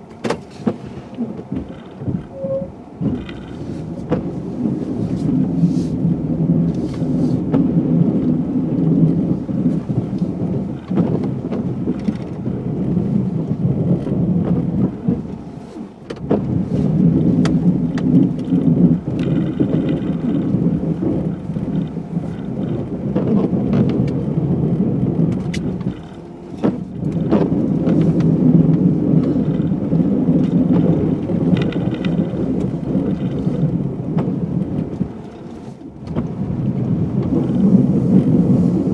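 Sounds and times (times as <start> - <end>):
truck and plow rumbling: 0.0 - 38.9.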